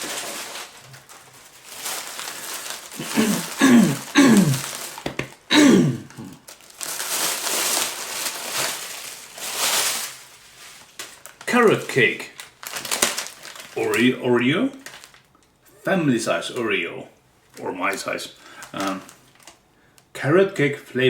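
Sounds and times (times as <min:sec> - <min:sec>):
packaging crinkling and rustling: 0:00.0 - 0:15.6, 0:17.4 - 0:20.2.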